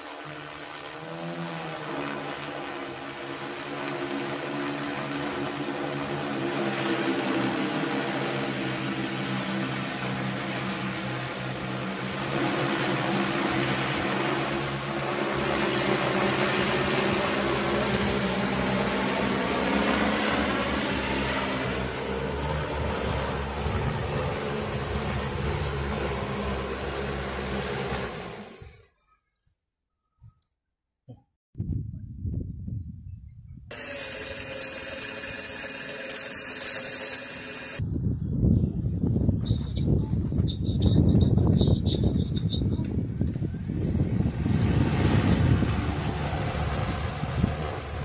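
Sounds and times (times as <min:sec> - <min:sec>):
drone propellers humming: 0:00.0 - 0:28.9, 0:33.7 - 0:37.9, 0:41.4 - 0:48.0.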